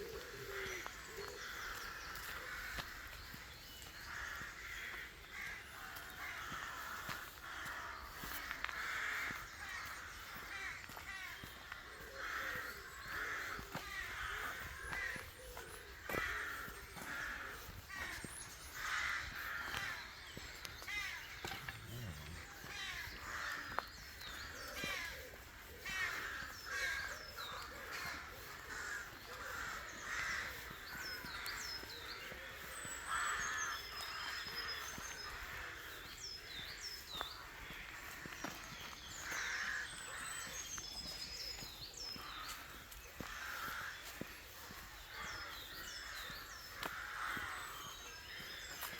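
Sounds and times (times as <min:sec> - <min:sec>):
crows cawing: 0:00.0 - 0:48.9
songbirds chirping: 0:00.0 - 0:48.9.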